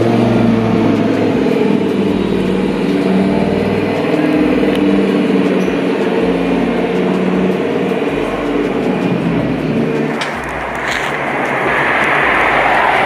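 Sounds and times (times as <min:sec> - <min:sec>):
car engines running: 0:00.0 - 0:13.0.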